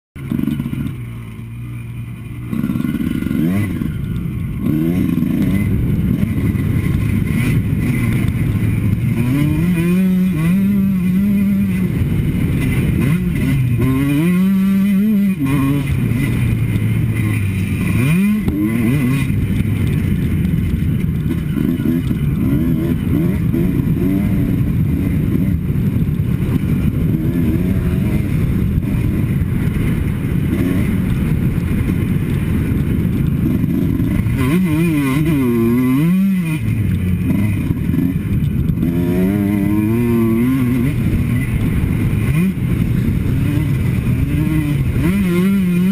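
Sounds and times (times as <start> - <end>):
motocross bike engine revving: 0.2 - 45.9.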